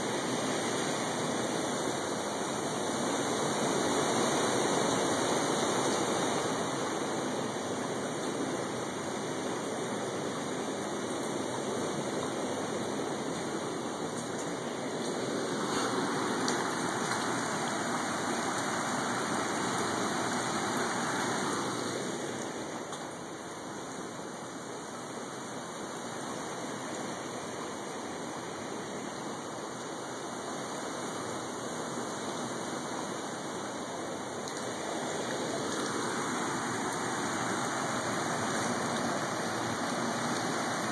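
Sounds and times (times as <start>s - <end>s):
heavy rain: 0.0s - 40.9s
running water: 0.0s - 40.9s.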